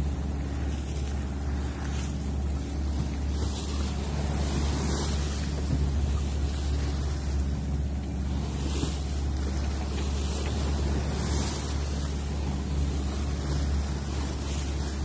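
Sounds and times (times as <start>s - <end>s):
low rumble of yacht: 0.0s - 15.0s
water washing along hull: 0.0s - 15.0s
wind: 0.0s - 15.0s.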